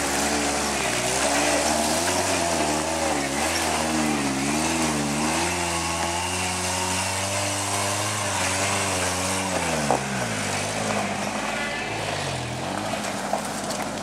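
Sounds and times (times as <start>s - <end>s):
truck engine revving under load: 0.0s - 14.0s.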